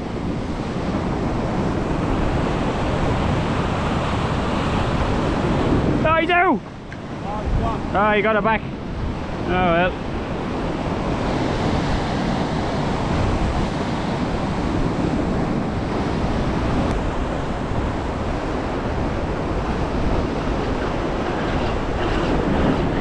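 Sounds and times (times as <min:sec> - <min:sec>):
sea surf washing: 0:00.0 - 0:23.0
wind buffeting microphone: 0:00.0 - 0:23.0.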